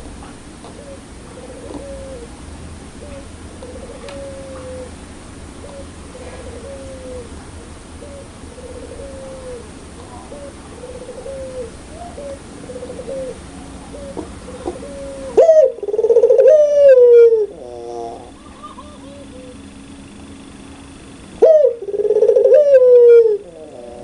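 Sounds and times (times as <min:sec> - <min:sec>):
dove cooing: 0:00.7 - 0:19.7, 0:20.9 - 0:24.0.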